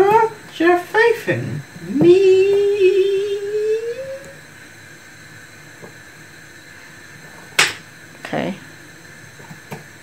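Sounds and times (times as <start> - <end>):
room hiss: 0.0 - 10.0.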